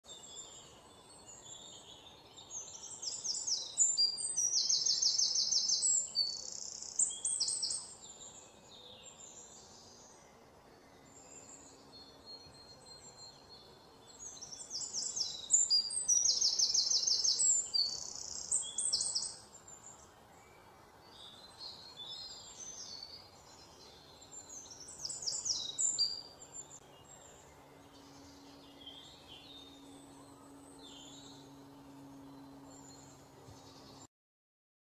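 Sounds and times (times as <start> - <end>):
birds chirping and trilling: 0.1 - 34.1.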